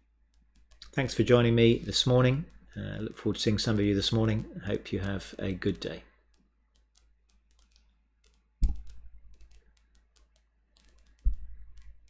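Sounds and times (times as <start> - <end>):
light keyboard clicks and taps: 0.0 - 12.0.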